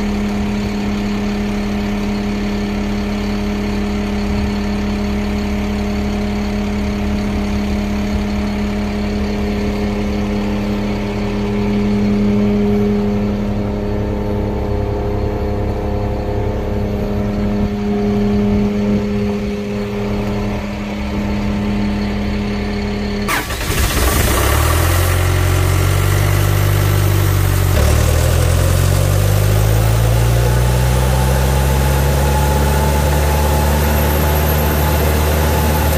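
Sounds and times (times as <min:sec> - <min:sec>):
diesel truck engine: 0:00.0 - 0:35.9.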